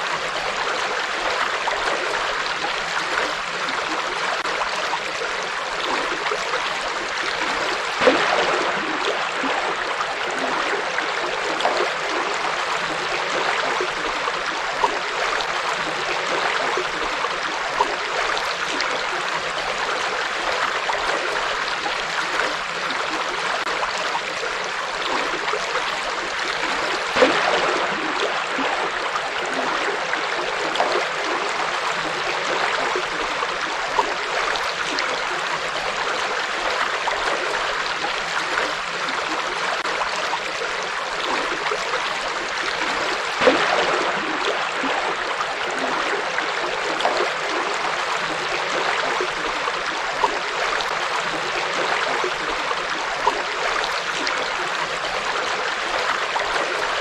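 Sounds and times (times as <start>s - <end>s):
river water flowing: 0.0s - 57.0s
water splashes: 0.0s - 57.0s.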